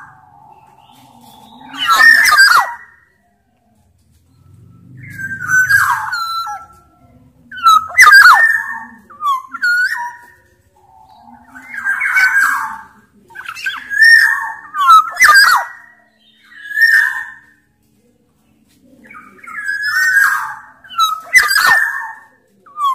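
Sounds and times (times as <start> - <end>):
oriole whistled calls: 0.0 - 3.2, 4.3 - 17.7, 19.0 - 22.9.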